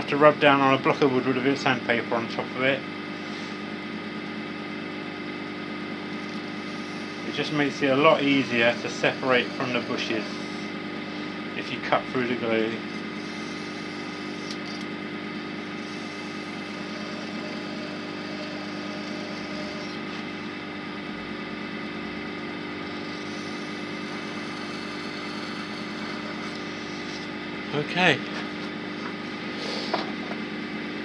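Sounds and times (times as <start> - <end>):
wood lathe motor hum: 0.0 - 31.0.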